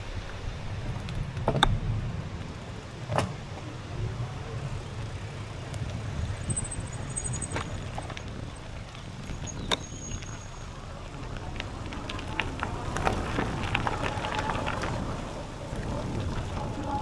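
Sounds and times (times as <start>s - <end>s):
bicycle tyres rumbling on trail: 0.0s - 17.0s
bike rattling over bumps: 0.0s - 17.0s.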